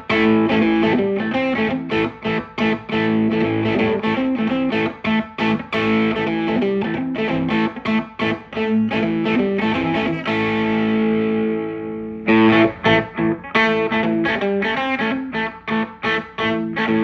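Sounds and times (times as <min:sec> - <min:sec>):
overdriven electric guitar riff: 0:00.0 - 0:17.0.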